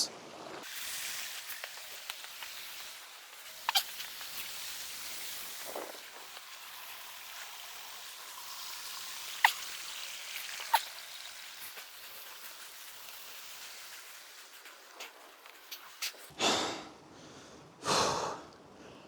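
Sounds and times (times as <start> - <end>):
stream running over rocks: 0.0 - 16.3.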